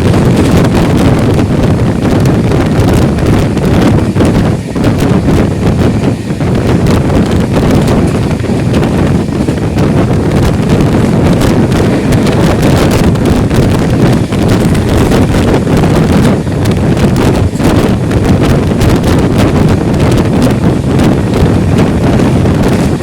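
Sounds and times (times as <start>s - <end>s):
train rumble: 0.0s - 23.0s
wind rushing over microphone: 0.0s - 23.0s.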